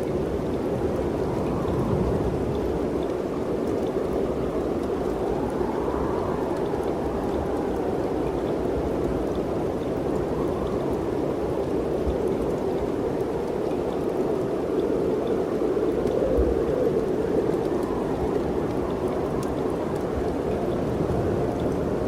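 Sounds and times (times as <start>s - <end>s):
wind blowing steadily: 0.0s - 22.0s.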